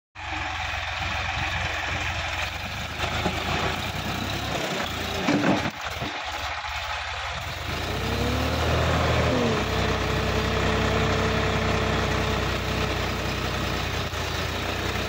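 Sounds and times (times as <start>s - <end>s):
tractor diesel engine running: 0.2s - 15.0s.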